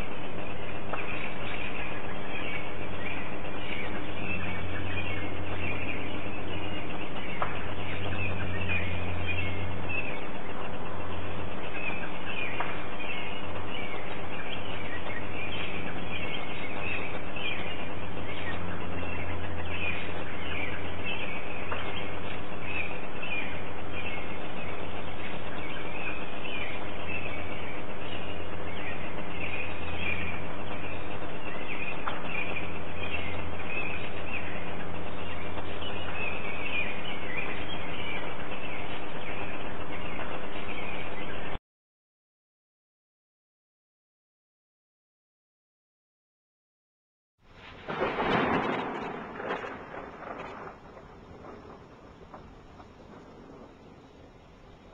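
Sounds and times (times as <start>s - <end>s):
birds chirping: 0.0s - 41.6s, 48.0s - 54.9s
steady low hum: 0.0s - 41.6s, 47.4s - 54.9s.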